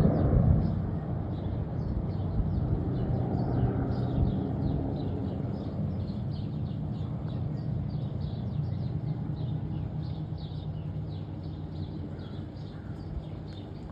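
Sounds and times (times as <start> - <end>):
radial aircraft engines droning: 0.0 - 13.9
small birds chirping: 0.0 - 13.9.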